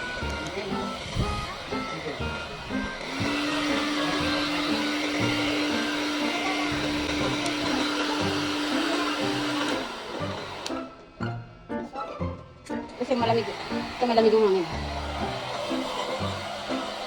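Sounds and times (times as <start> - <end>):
hair dryer running: 0.0 - 11.2, 12.8 - 17.0.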